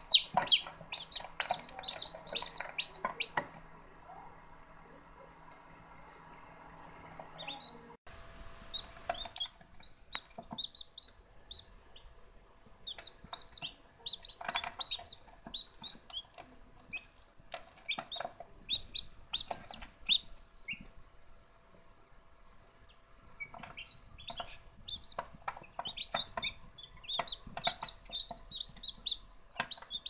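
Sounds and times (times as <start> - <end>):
chicks peeping: 0.0 - 5.5, 6.9 - 30.0.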